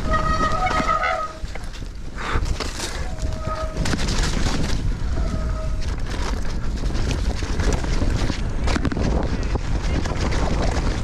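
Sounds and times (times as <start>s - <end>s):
bike rattling and knocking: 0.0s - 11.0s
tyres rolling on dirt: 0.0s - 11.0s
wind on microphone: 0.0s - 11.0s.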